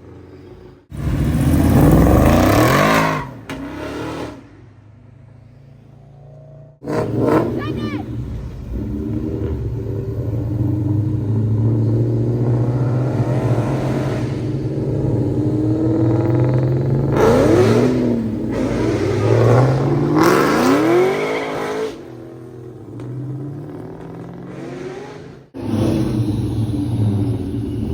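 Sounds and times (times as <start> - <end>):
car engine rumbling and revving: 0.0 - 27.9.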